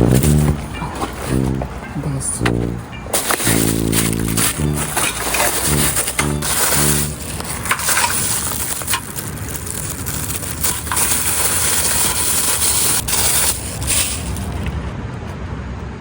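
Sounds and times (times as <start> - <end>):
crunching and rustling: 0.0 - 14.9.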